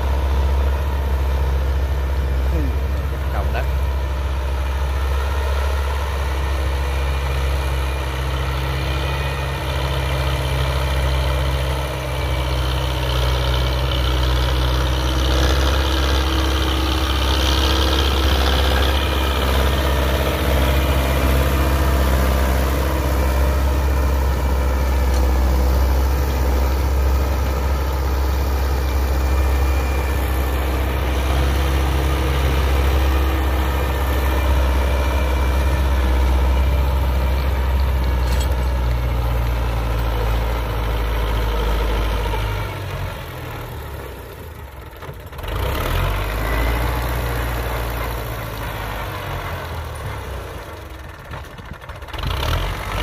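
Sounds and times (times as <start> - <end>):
tractor diesel engine: 0.0 - 53.0.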